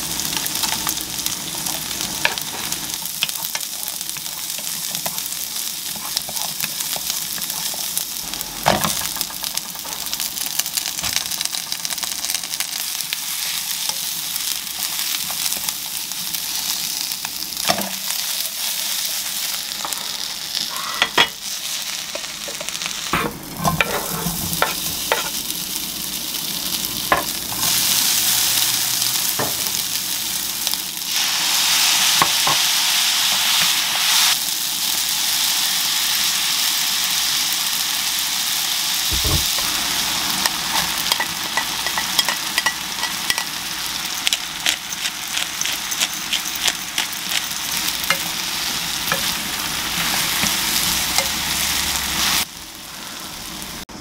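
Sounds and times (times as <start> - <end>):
garlic sizzling in oil: 0.0 - 54.0.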